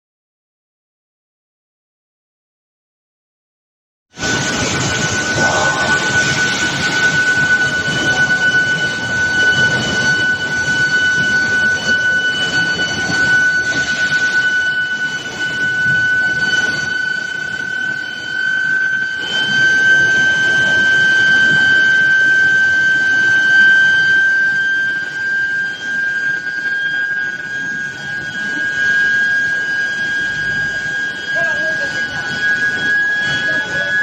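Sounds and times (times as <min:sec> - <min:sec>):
induction furnace high-pitched whine: 0:04.2 - 0:34.0
machinery noise: 0:04.2 - 0:34.0.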